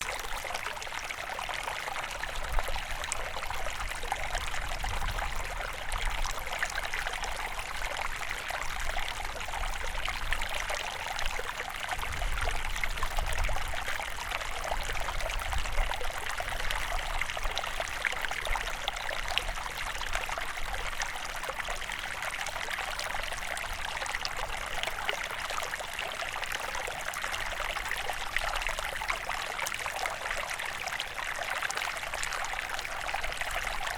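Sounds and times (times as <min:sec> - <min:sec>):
stream water trickling: 0:00.0 - 0:33.9.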